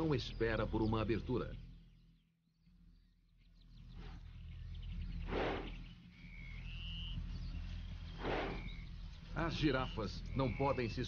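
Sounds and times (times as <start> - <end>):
birds whistling: 0.0 - 11.0.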